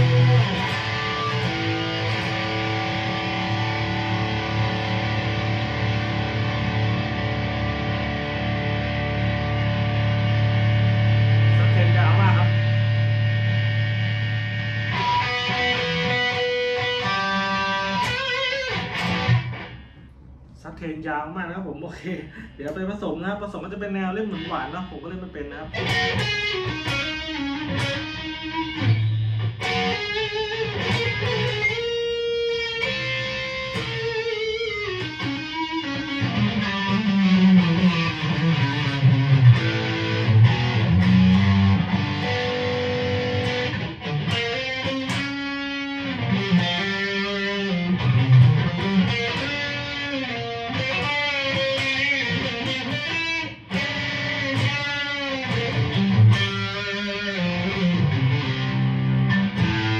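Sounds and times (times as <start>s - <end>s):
electric guitar lead lines: 0.0s - 20.6s, 23.4s - 59.9s.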